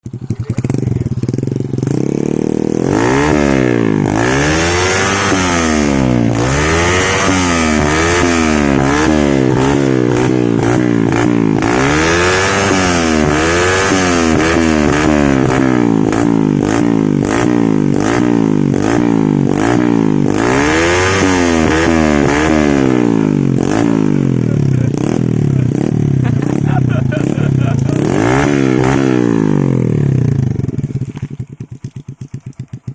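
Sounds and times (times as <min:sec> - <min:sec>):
motorcycle engine idling: 0:00.0 - 0:06.6, 0:07.4 - 0:20.7, 0:21.6 - 0:32.9
motorcycle engine revving: 0:00.0 - 0:32.9.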